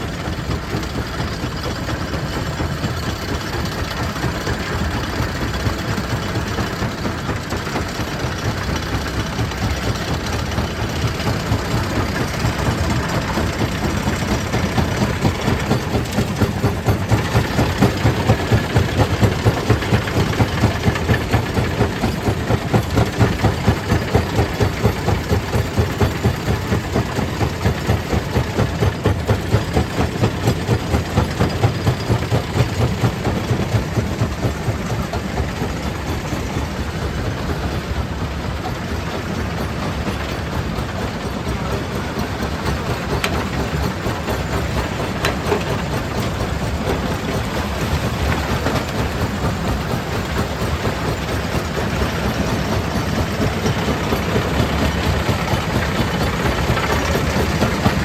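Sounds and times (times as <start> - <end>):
crusher machinery rhythmic beat: 0.0 - 58.0.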